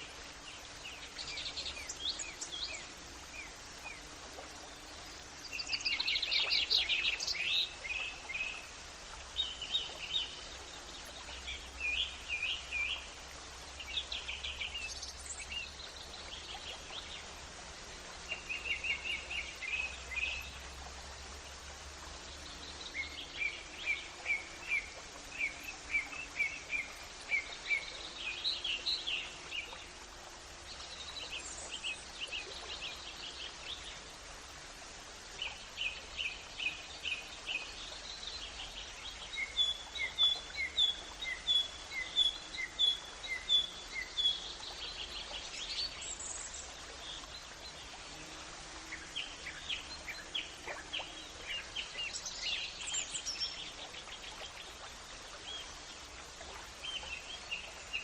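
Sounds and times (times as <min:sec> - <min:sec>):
outdoor ambience hiss: 0:00.0 - 0:58.0.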